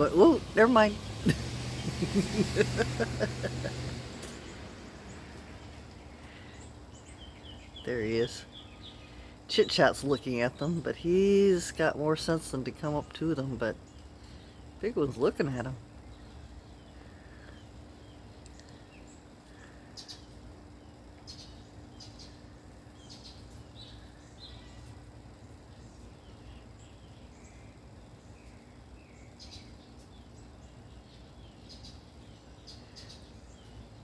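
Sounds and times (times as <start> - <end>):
low steady background hum: 0.0 - 34.0.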